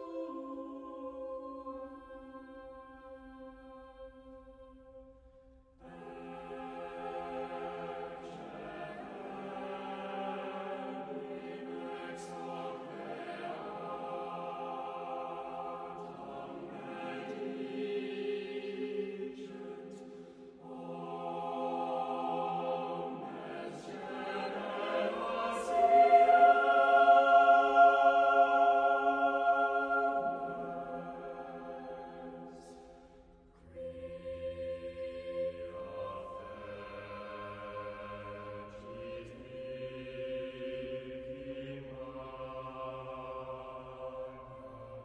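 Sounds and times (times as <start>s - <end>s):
slow choral music: 0.0s - 45.0s.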